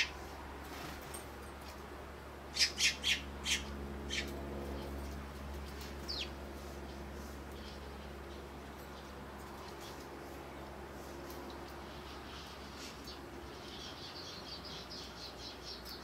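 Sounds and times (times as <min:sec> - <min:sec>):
sparrows chirping: 0:00.0 - 0:01.8, 0:02.5 - 0:16.0
steady low hum: 0:00.0 - 0:16.0.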